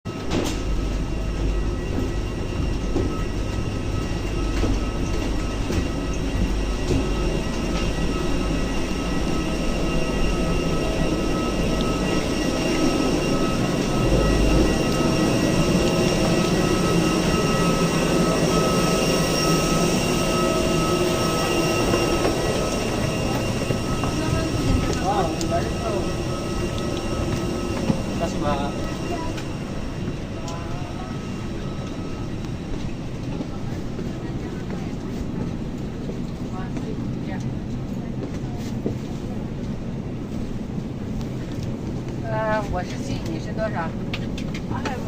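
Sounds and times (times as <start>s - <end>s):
airliner cabin engine rumble: 0.1s - 45.0s
faint steady whining tones: 0.1s - 45.0s.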